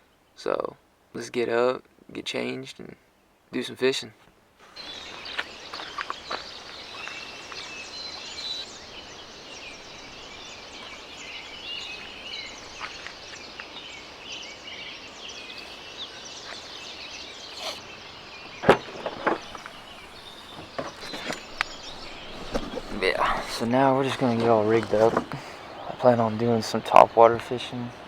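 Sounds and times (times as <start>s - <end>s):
birds chirping chorus: 0.0s - 28.0s
outdoor background noise: 0.0s - 28.0s.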